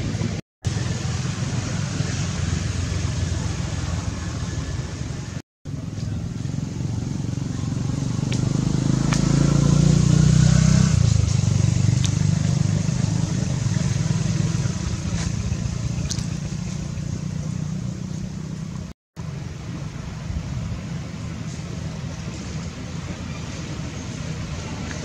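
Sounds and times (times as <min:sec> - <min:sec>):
outdoor background noise: 0:00.0 - 0:25.0
vehicle engine passing: 0:00.0 - 0:25.0.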